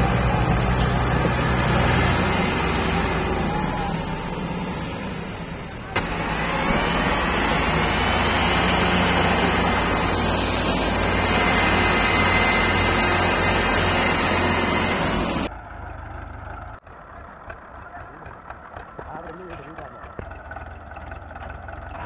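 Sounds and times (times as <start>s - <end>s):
tractor diesel engines under load: 0.0s - 22.0s.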